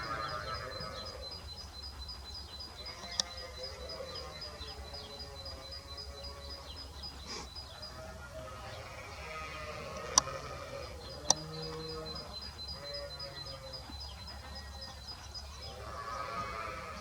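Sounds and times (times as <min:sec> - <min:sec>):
bird ticking calls: 0:00.0 - 0:17.0
low bird calls: 0:00.0 - 0:17.0.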